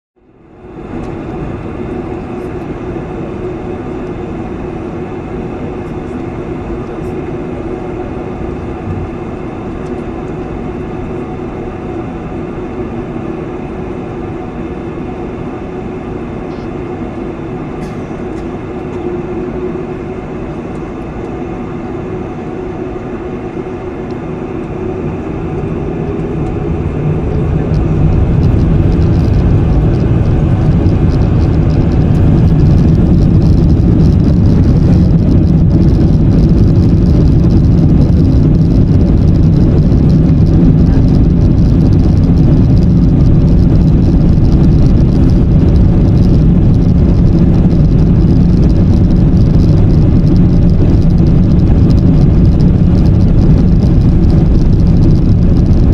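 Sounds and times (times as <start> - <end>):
jet engines humming: 0.2 - 55.9.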